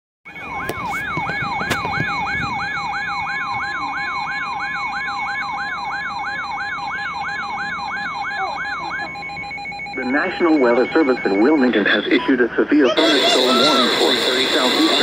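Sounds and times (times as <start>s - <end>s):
electronic siren wail: 0.2s - 12.2s, 12.9s - 15.0s
high alarm tone: 0.2s - 15.0s.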